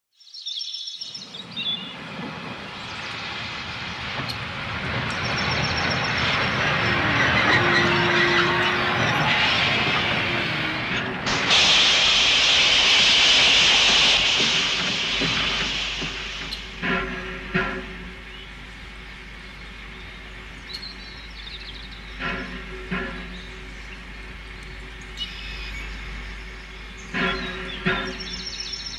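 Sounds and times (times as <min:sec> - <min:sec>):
steam engine running: 0:02.5 - 0:28.9.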